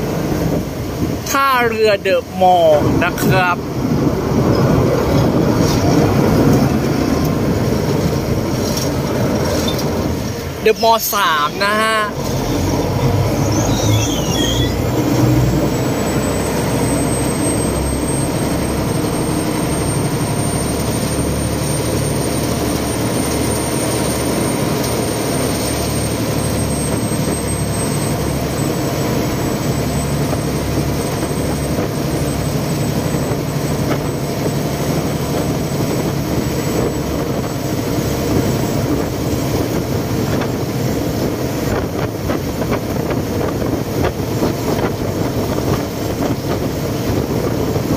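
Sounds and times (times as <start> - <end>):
boat diesel engine running: 0.0 - 47.9
water rushing along hull: 0.0 - 47.9.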